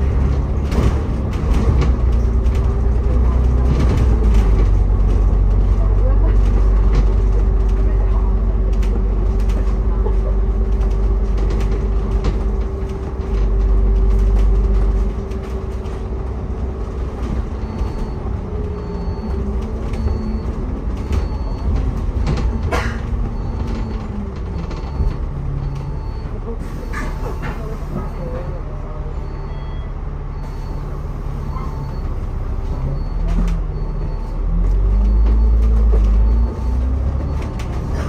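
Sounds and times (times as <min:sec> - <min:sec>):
vehicle interior rumble and hum: 0:00.0 - 0:38.0.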